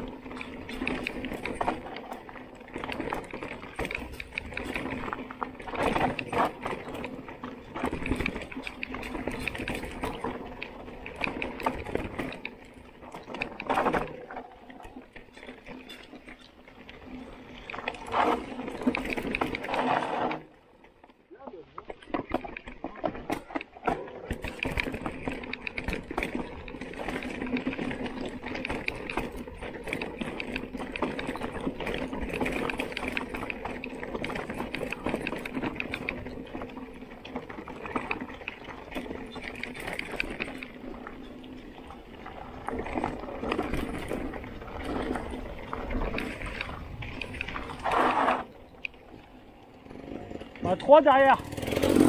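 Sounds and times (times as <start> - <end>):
bike clattering over rocks: 0.0 - 21.0, 21.7 - 49.3, 50.4 - 52.0.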